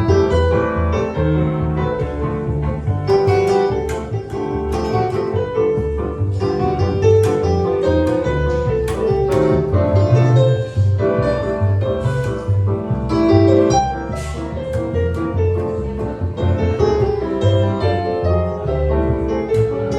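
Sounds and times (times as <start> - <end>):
low bass line: 0.0 - 19.9
piano: 0.0 - 19.9.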